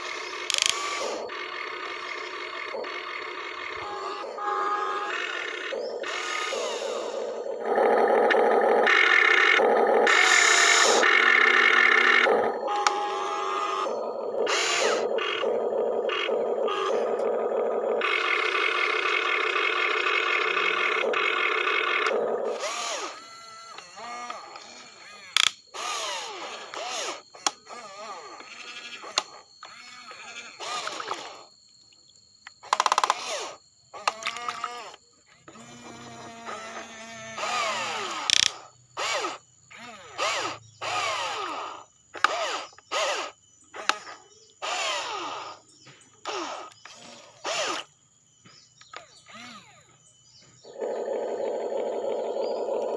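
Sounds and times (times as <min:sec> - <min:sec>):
toy electric motors whirring: 0:00.0 - 0:31.5, 0:32.6 - 0:45.6, 0:46.2 - 0:48.0, 0:48.8 - 0:49.9, 0:50.6 - 0:52.9.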